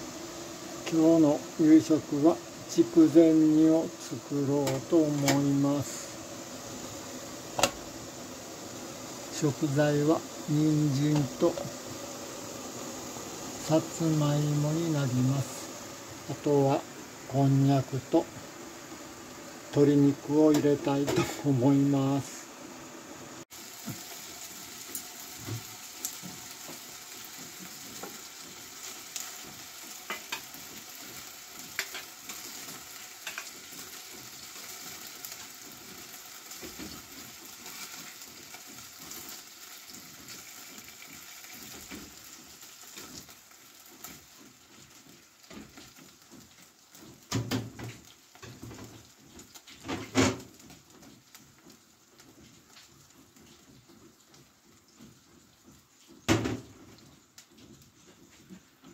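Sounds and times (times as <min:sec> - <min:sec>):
chicken sizzling in frying pan: 0:00.0 - 0:58.9.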